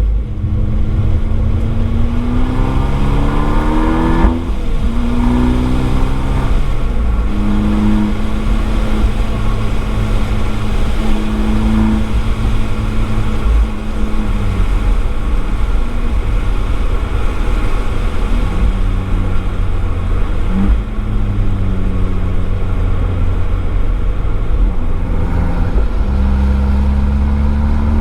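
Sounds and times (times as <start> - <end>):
car engine revving: 0.0 - 28.0
tyres hissing on wet road: 0.4 - 28.0.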